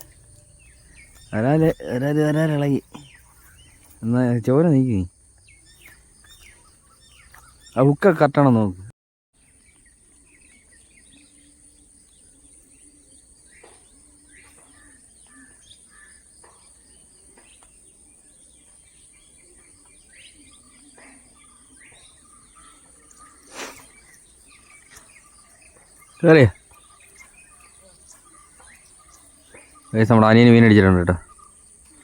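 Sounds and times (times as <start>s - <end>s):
bird chirps: 0.0s - 32.0s.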